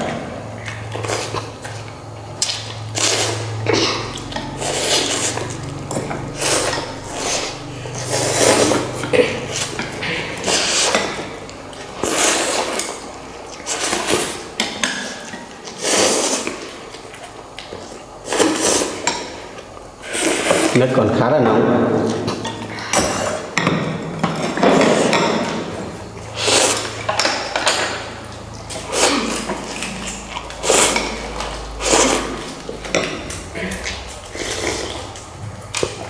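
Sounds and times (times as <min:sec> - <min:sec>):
noisy noodle slurping: 0:00.6 - 0:20.9, 0:24.4 - 0:36.0.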